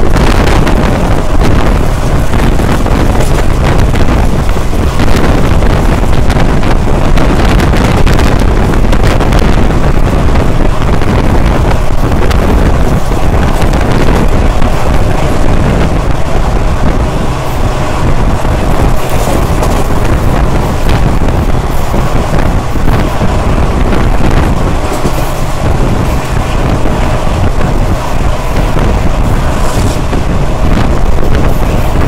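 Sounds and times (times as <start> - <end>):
train coach rumbling on track: 0.0 - 32.0
wind buffeting microphone: 0.0 - 32.0.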